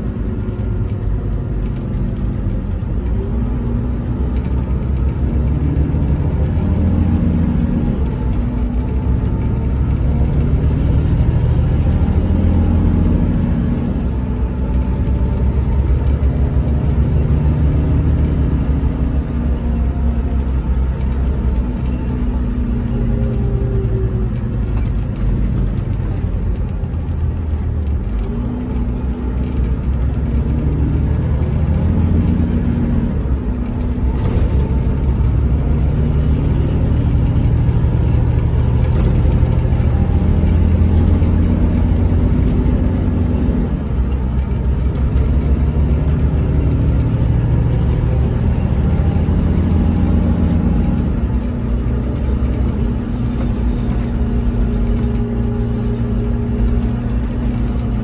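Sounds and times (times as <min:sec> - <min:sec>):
diesel coach engine: 0:00.0 - 0:58.0
road rumble: 0:00.0 - 0:58.0.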